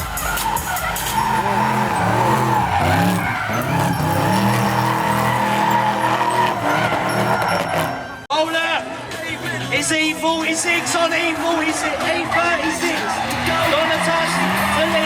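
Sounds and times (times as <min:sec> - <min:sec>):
car engine revving: 0:00.0 - 0:08.2, 0:09.4 - 0:15.0
tyres squealing: 0:00.0 - 0:08.3, 0:10.8 - 0:15.0.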